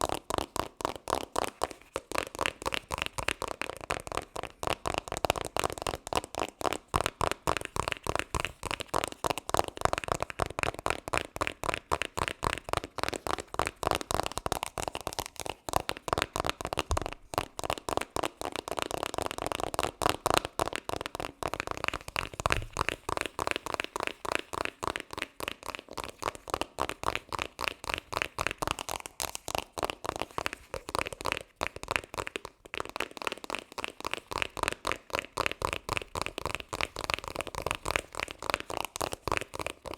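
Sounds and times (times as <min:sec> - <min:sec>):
rapid taps or clicks: 0:00.0 - 0:39.9.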